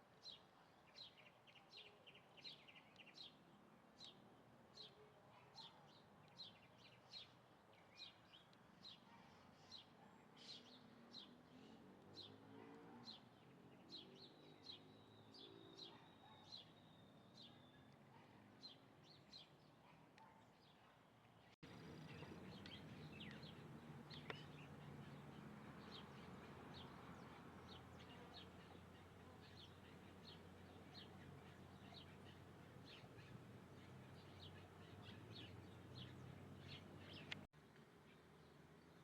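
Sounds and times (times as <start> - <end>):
small birds chirping: 0.1 - 39.0.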